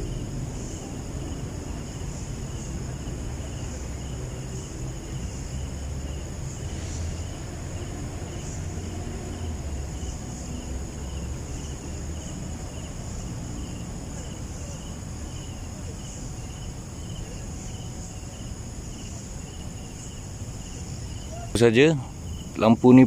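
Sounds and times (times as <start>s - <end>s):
high insect trill: 0.0s - 23.0s
lower insect chirps: 0.0s - 23.0s.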